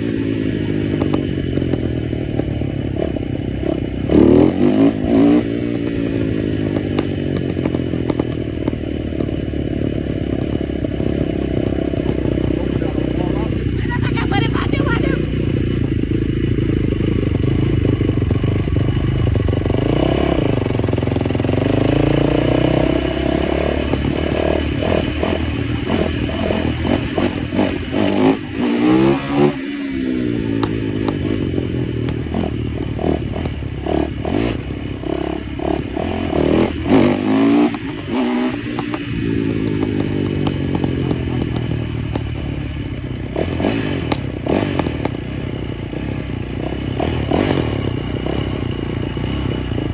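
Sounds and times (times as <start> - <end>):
small motorcycle engine running: 0.0 - 49.9.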